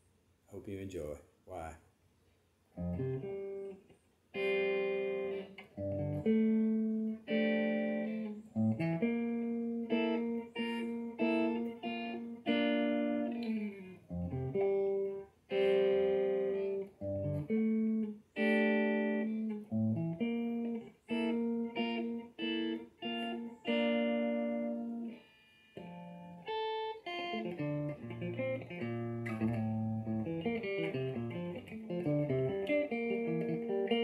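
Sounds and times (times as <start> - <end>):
clean electric guitar: 2.8 - 34.0.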